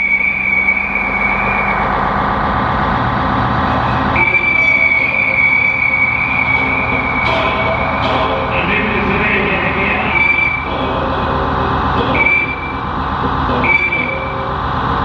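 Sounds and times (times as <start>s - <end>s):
high whistling tone: 0.0s - 2.6s, 3.7s - 14.7s
dense churning drone: 0.0s - 15.0s.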